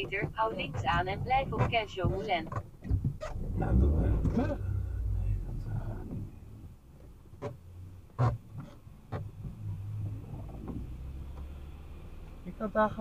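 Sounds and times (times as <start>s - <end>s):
car cabin hum: 0.0s - 11.5s.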